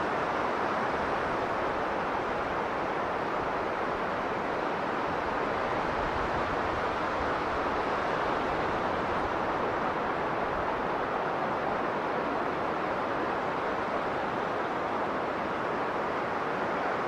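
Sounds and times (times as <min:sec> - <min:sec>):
strong blizzard wind: 0:00.0 - 0:17.0.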